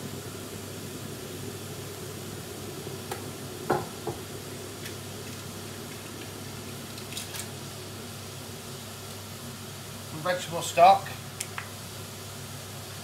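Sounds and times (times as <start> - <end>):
steady low hiss: 0.0 - 13.0
vegetables sweating in oil: 0.1 - 13.0.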